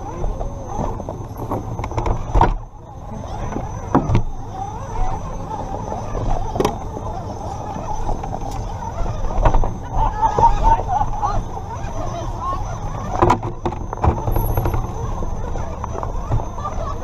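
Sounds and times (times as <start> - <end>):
electric motor and drivetrain running: 0.0 - 17.0.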